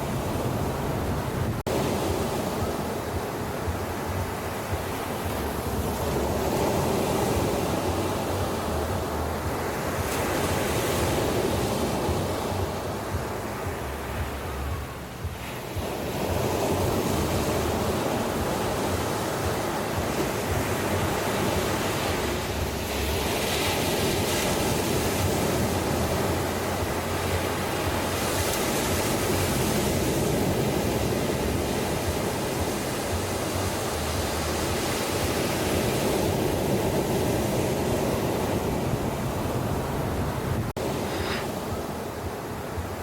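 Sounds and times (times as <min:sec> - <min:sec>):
ocean surf on a beach: 0:00.0 - 0:43.0.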